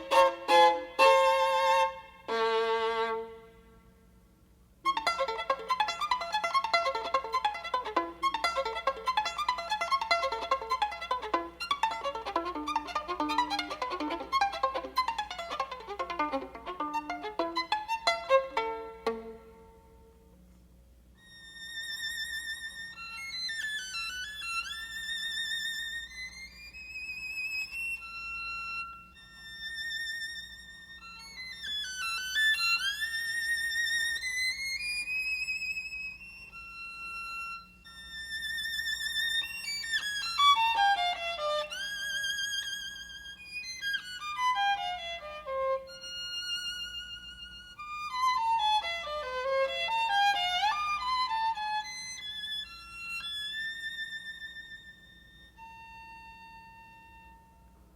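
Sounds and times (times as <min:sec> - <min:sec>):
solo violin melody: 0:00.0 - 0:03.8, 0:04.8 - 0:19.8, 0:21.2 - 0:57.6.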